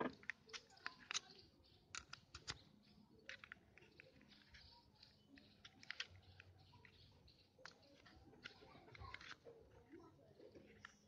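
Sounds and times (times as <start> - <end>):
plastic clicks and rattles: 0.0 - 7.0, 7.6 - 9.5.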